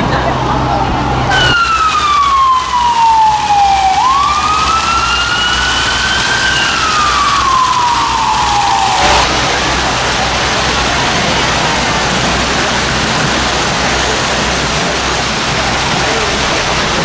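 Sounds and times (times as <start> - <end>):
fountain jets splashing: 0.0 - 17.0
emergency vehicle siren wailing: 0.6 - 17.0.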